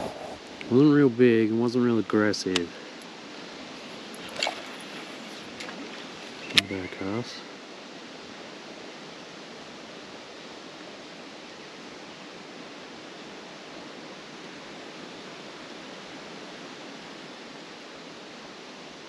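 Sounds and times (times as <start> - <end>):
wind through trees: 0.0 - 19.0.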